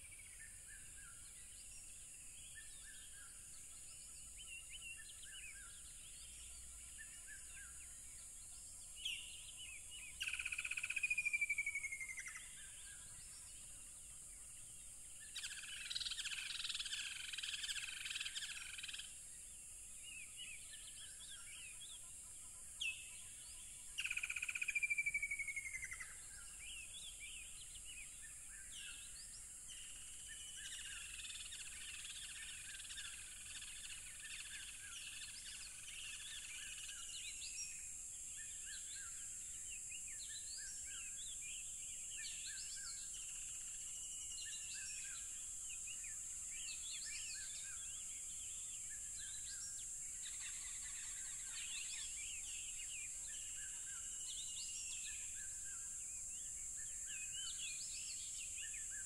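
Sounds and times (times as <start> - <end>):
cricket chorus: 0.0 - 59.0.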